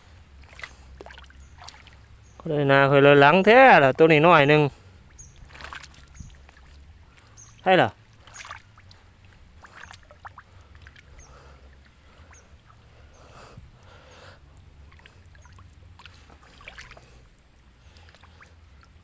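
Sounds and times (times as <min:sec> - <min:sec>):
steady low drone: 0:00.0 - 0:19.0
water splashing and sloshing: 0:00.0 - 0:19.0.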